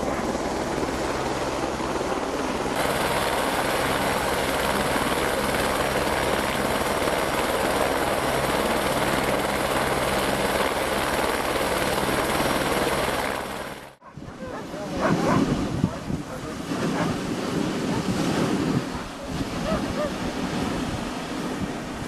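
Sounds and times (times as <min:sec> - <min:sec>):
helicopter engine and rotor running: 0:00.0 - 0:22.0.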